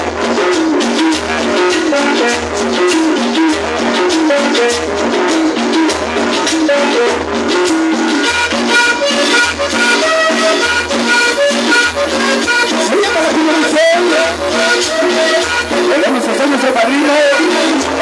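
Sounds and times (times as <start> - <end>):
cumbia music over sound system: 0.0 - 18.0.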